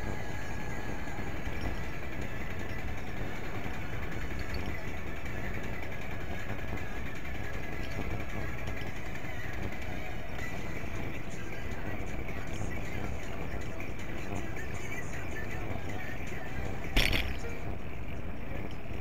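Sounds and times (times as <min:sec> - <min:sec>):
bicycle road noise: 0:00.0 - 0:19.0.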